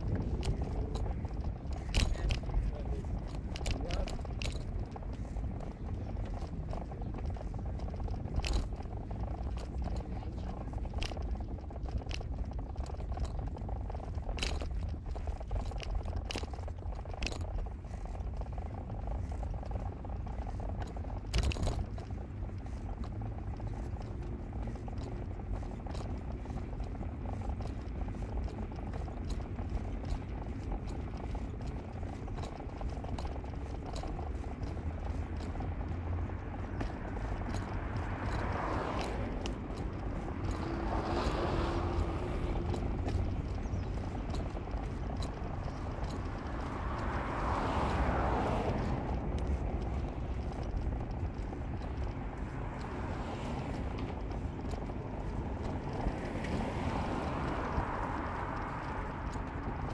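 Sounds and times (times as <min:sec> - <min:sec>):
car engine and tyres rumbling: 0:00.0 - 0:59.9
sharp clicks and knocks: 0:00.0 - 0:59.9.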